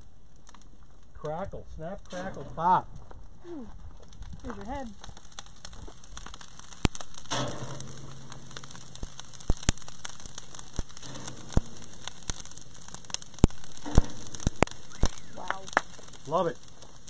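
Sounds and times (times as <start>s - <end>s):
embers popping and crackling: 0.0s - 17.0s
meat sizzling on a grill: 0.0s - 17.0s.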